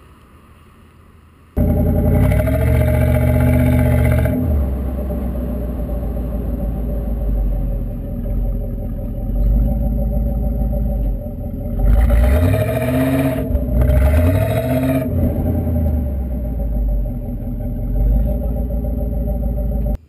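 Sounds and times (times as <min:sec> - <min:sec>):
car exhaust rumbling and revving: 0:01.6 - 0:20.0.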